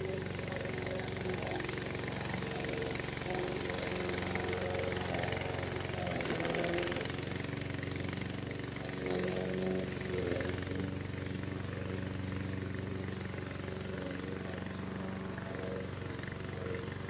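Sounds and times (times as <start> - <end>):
mower engine running: 0.0 - 17.0.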